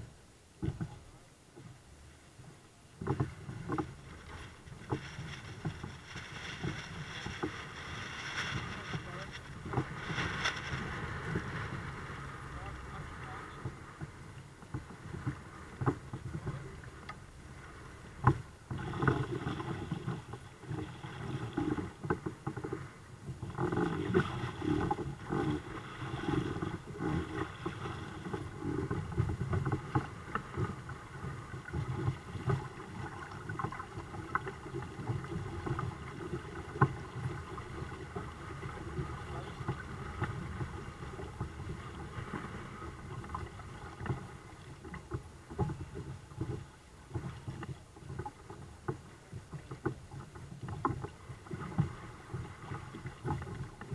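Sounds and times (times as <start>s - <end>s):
water lapping against hulls: 0.0s - 53.9s.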